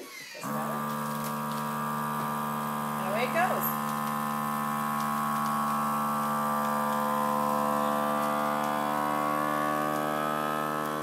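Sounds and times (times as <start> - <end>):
vacuum sealer pump humming: 0.4 - 11.0.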